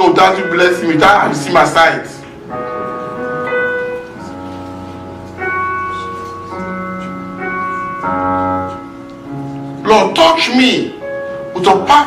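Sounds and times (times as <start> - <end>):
background music of sustained chords: 0.0 - 12.0.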